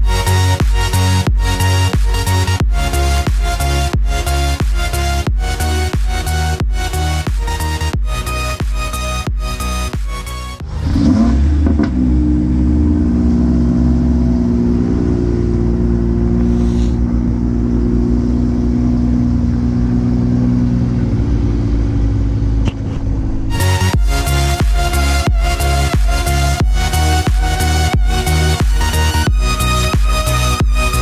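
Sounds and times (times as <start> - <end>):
car engine revving and idling: 0.0 - 31.0.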